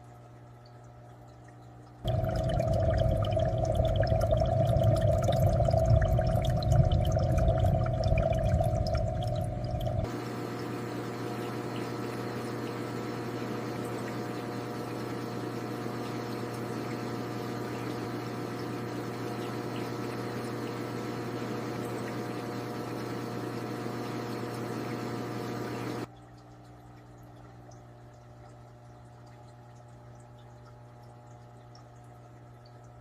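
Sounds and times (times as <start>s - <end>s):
aquarium water bubbling: 0.0s - 33.0s
pump hum: 0.0s - 33.0s.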